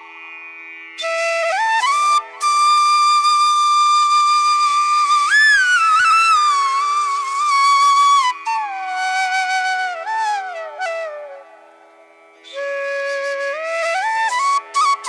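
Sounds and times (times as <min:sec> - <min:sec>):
flute melody: 0:01.0 - 0:11.7, 0:12.5 - 0:15.0.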